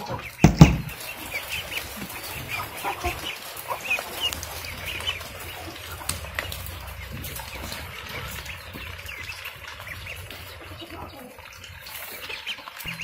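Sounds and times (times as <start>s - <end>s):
ducklings peeping: 0.0s - 13.0s
hen clucking: 0.0s - 13.0s.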